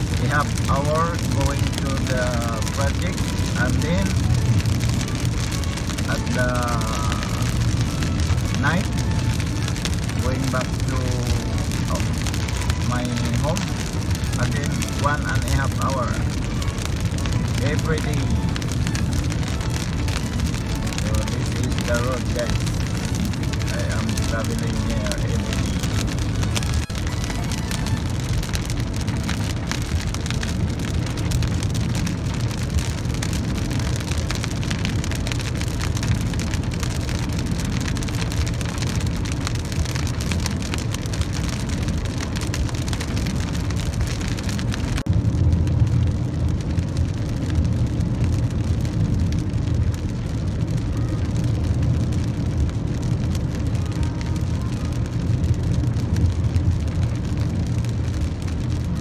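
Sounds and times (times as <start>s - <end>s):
car tyres rumbling on wet road: 0.0s - 59.0s
rain on car windshield: 0.0s - 59.0s.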